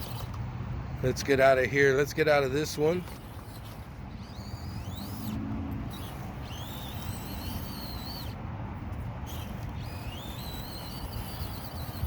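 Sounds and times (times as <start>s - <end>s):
small electric motor whining: 0.0s - 0.4s, 2.0s - 12.0s.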